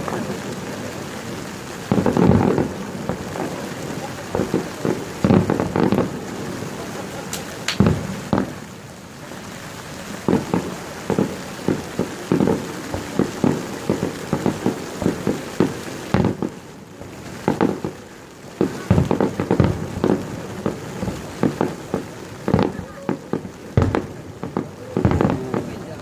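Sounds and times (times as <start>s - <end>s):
fireworks bursting: 0.0s - 26.0s
rain hiss: 0.0s - 26.0s.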